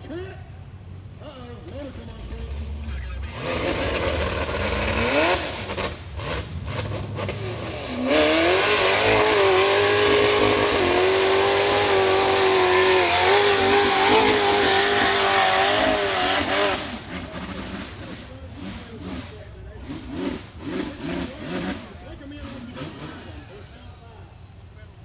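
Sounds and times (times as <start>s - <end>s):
race buggy engine revving: 0.0s - 25.0s.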